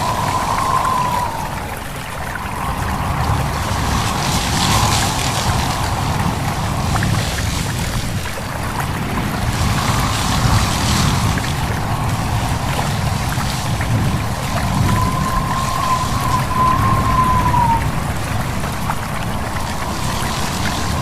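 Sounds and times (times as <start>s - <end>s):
babbling stream: 0.0s - 21.0s
wind rustling leaves: 0.0s - 21.0s.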